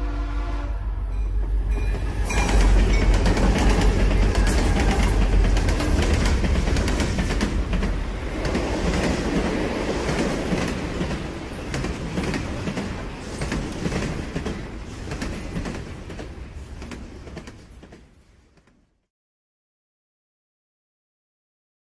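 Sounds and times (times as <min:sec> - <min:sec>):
train wheels clattering on rails: 0:01.2 - 0:18.8.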